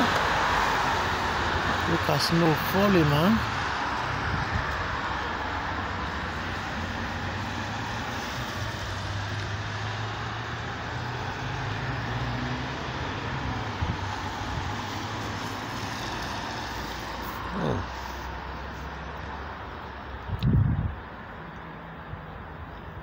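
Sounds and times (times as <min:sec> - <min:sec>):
tyres hissing on wet road: 0:00.0 - 0:20.1.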